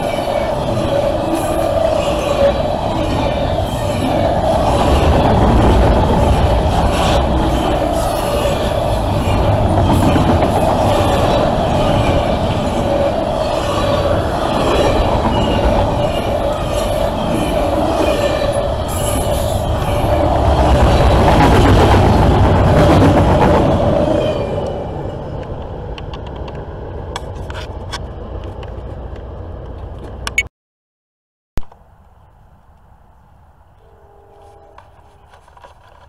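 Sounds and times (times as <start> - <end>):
train wheels rumbling on rails: 0.0 - 30.3.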